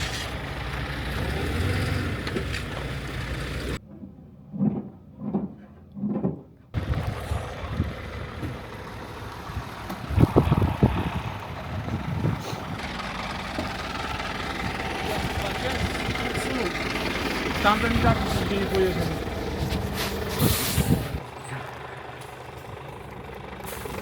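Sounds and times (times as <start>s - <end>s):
vehicle engine running: 0.0s - 3.8s, 6.8s - 24.0s.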